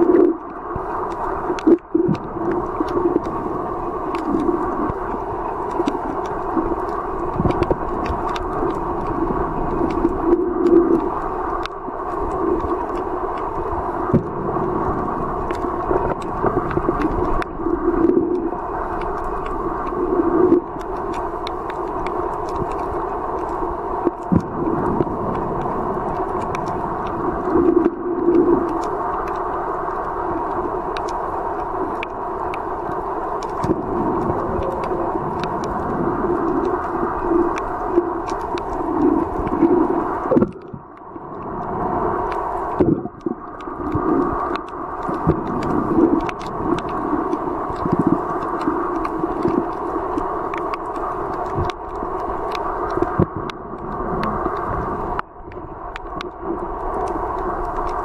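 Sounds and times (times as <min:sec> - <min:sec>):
muffled underwater water rush: 0:00.0 - 0:58.0.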